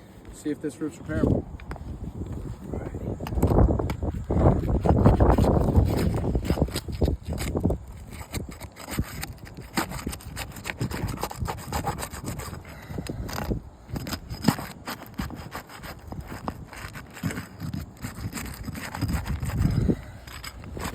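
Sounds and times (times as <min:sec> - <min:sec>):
scraping on roof shingles: 0:00.0 - 0:20.9.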